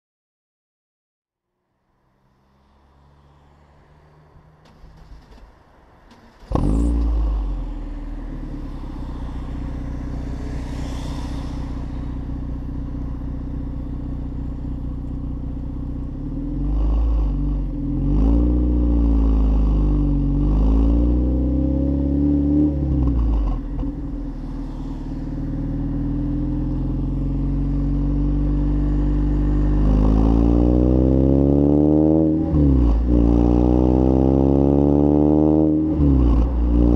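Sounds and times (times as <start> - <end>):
car engine starting and revving: 1.9 - 36.9.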